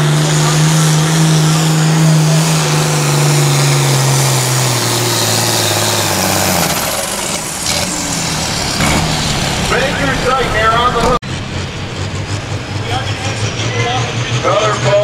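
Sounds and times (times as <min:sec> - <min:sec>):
tractor diesel engine labouring: 0:00.0 - 0:15.0.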